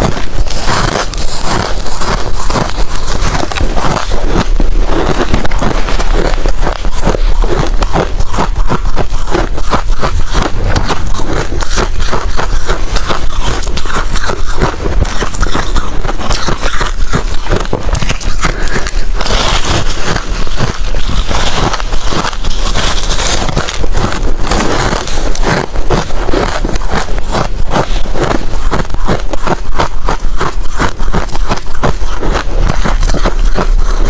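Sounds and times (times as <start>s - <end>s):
ice crunching between teeth: 0.0s - 34.0s.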